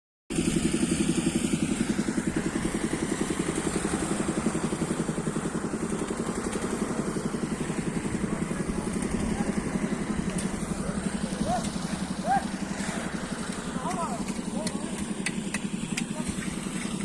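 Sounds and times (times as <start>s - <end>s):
engine thumping steadily: 0.3s - 17.0s.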